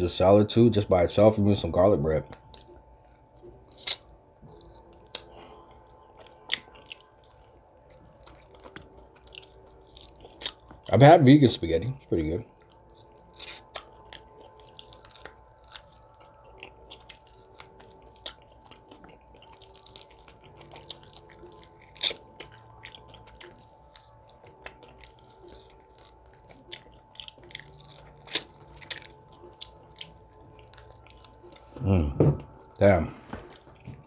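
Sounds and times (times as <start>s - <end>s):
chewing and biting meat: 2.3s - 10.9s, 12.5s - 34.0s.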